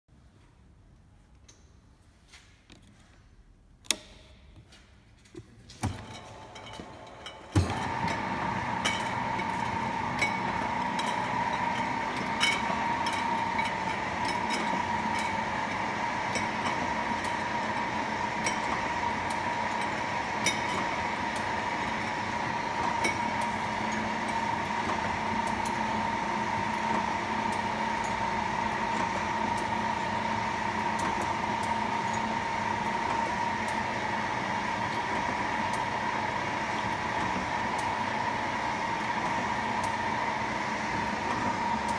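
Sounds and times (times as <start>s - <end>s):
bottling machine humming: 5.8s - 41.9s.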